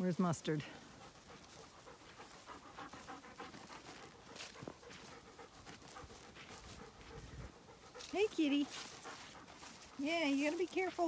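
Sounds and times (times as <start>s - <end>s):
quick rhythmic panting: 0.5s - 11.0s.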